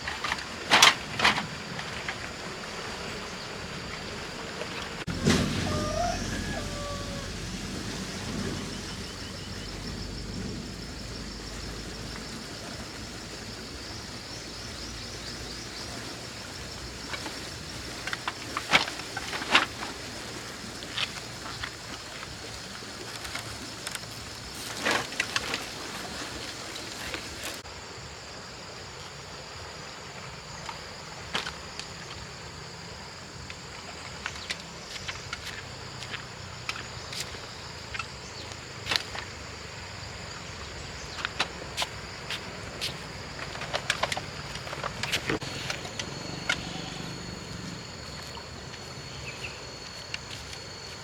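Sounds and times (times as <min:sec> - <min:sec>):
insects chirring: 0:00.0 - 0:51.0.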